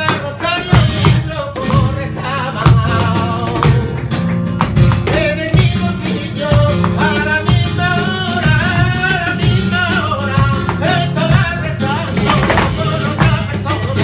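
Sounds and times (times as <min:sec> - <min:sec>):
dancers' footwork strikes: 0:00.0 - 0:14.0
guitar: 0:00.0 - 0:14.0
man singing: 0:00.0 - 0:14.0.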